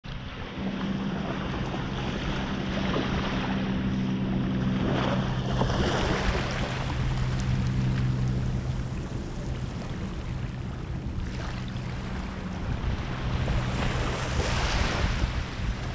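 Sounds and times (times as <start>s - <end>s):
low motor hum: 0.0s - 15.9s
wavelets washing over wet sand: 0.7s - 15.9s.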